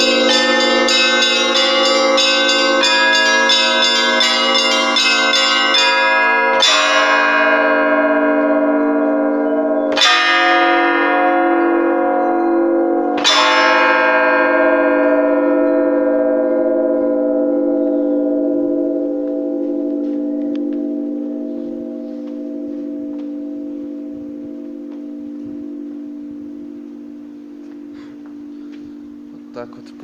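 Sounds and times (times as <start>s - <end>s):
church bells ringing: 0.0s - 30.0s.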